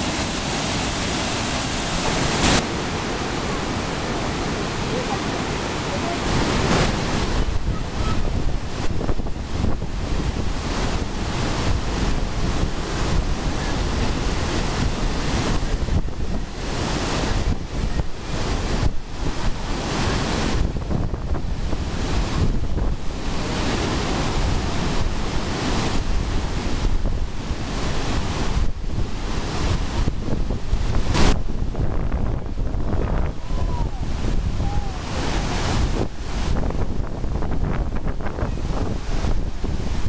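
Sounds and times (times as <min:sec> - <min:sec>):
waterfall rushing: 0:00.0 - 0:40.0
wind buffeting microphone: 0:03.5 - 0:40.0.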